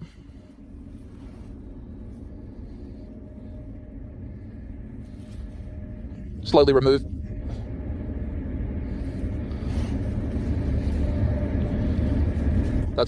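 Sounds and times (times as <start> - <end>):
faint steady hum: 0.0 - 13.0
steady low rumble: 0.0 - 13.0.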